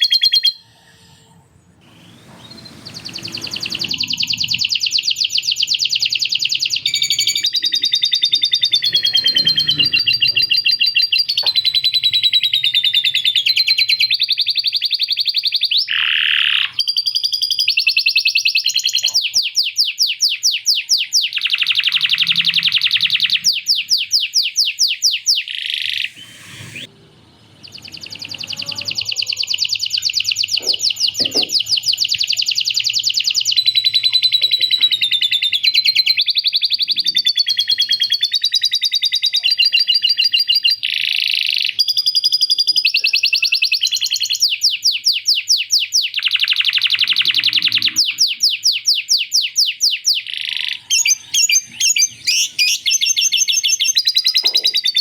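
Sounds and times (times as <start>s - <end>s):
canary singing trilled phrases: 0.0s - 26.9s, 27.5s - 55.0s.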